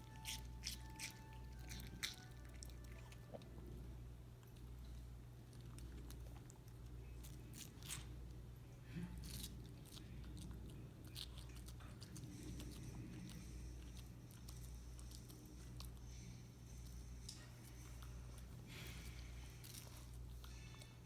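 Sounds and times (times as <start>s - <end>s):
dog crunching watermelon: 0.0s - 21.0s
steady low hum: 0.0s - 21.0s.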